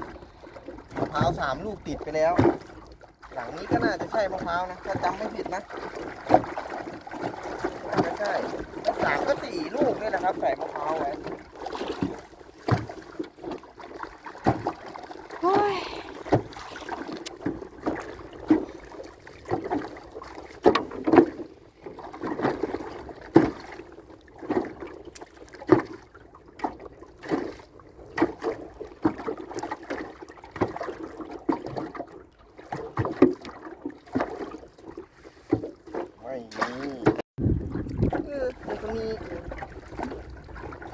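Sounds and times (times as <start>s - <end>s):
faint water sounds: 0.0s - 40.9s
knocks in a small boat: 0.0s - 40.9s.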